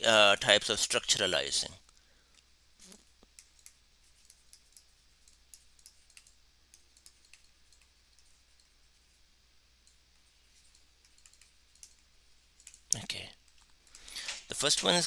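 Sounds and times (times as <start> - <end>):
faint irregular clicks: 1.8 - 14.6.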